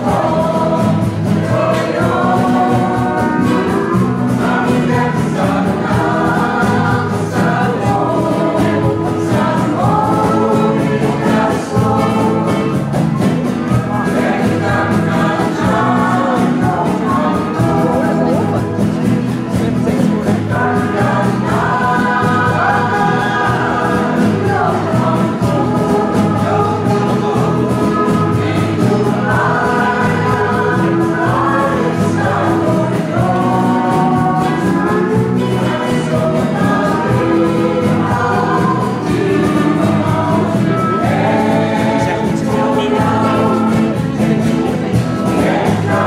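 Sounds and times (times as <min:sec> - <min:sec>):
bass line: 0:00.0 - 0:46.0
choir singing: 0:00.0 - 0:46.0
guitars playing: 0:00.0 - 0:46.0.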